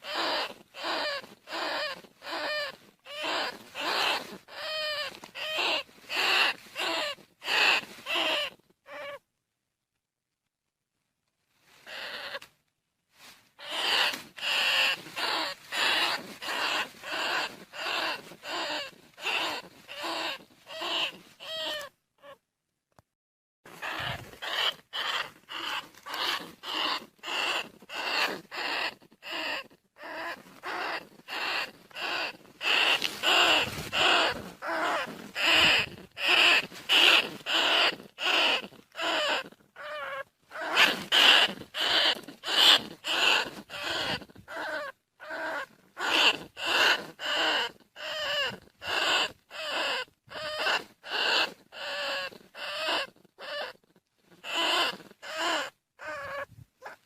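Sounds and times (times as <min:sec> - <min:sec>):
rat squealing: 0:00.0 - 0:09.2, 0:11.8 - 0:12.5, 0:13.6 - 0:22.4, 0:23.7 - 0:57.0.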